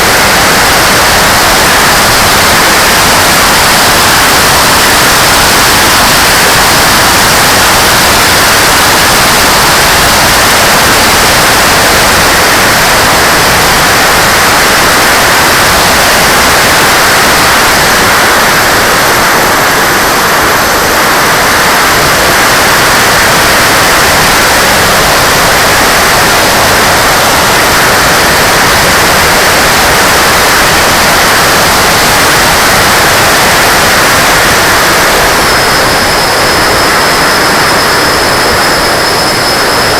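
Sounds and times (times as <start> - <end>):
airflow over camera: 0.0 - 39.9
electric ducted fan hissing: 0.0 - 39.9.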